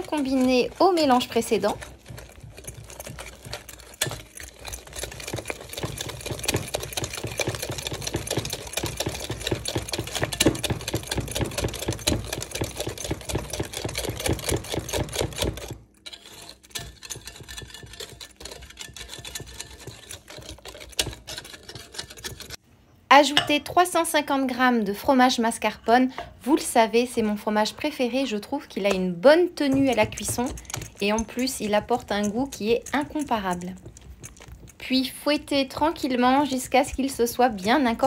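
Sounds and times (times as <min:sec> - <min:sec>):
whisk clattering in ceramic bowl: 0:00.0 - 0:22.6, 0:27.1 - 0:38.0.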